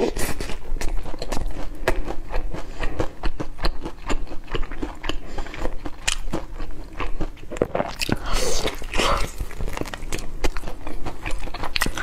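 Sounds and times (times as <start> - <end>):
person chewing crispy chicken: 0.0 - 12.0.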